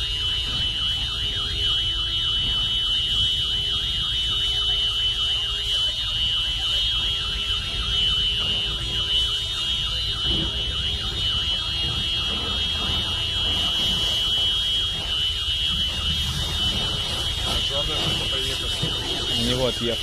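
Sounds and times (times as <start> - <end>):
car alarm tone: 0.0 - 20.0.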